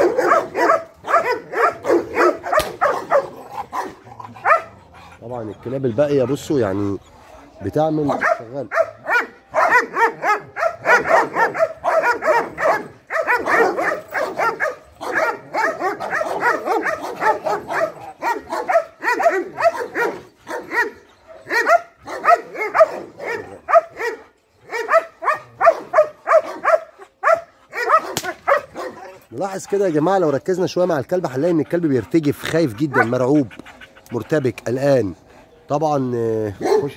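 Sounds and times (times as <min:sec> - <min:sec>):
dogs barking: 0:00.0 - 0:35.4, 0:36.1 - 0:36.9.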